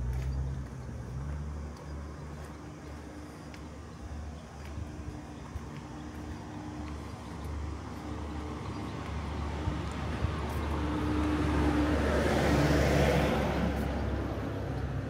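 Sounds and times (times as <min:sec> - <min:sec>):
tyre noise on road: 0:00.0 - 0:15.0
vehicle engine hum: 0:00.0 - 0:15.0.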